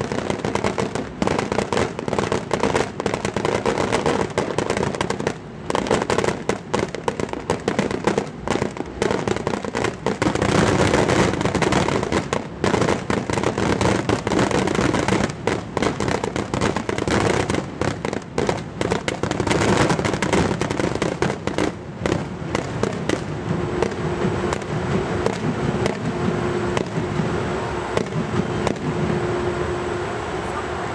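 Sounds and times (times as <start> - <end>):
fireworks bangs and crackling: 0.0 - 29.4
steady hum: 0.0 - 30.9.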